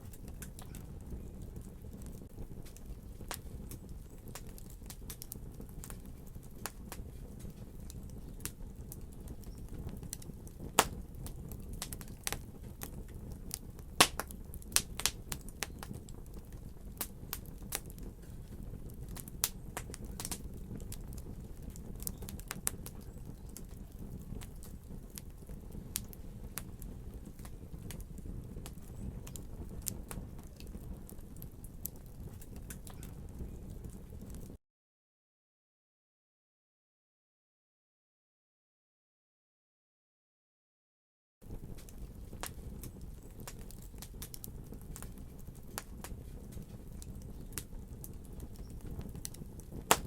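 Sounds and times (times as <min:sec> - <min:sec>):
wood fire crackling: 0:00.0 - 0:34.6, 0:41.4 - 0:50.0.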